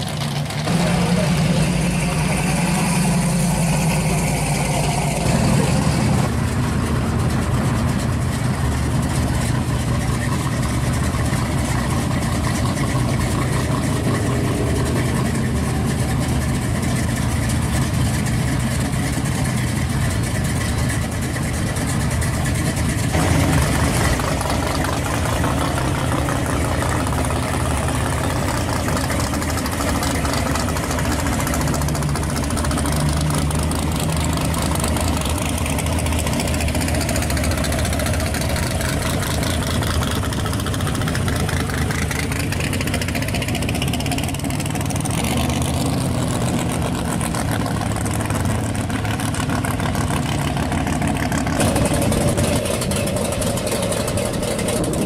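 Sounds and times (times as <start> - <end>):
pickup truck engines idling and revving: 0.0 - 55.0.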